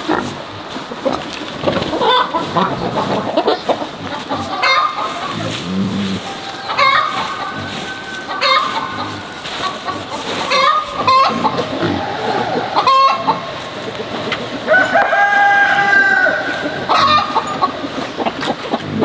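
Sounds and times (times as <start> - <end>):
broom scratching dirt: 0.0 - 19.0
chickens clucking: 0.0 - 19.0.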